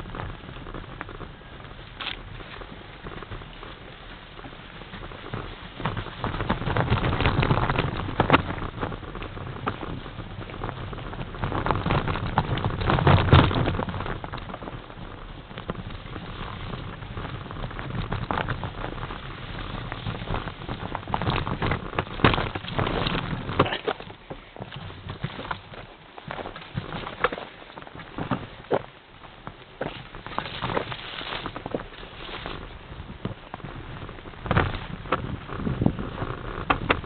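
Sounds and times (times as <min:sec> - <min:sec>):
bike knocking and rattling: 0:00.0 - 0:37.0
bike tyres crunching on snow: 0:00.0 - 0:37.0.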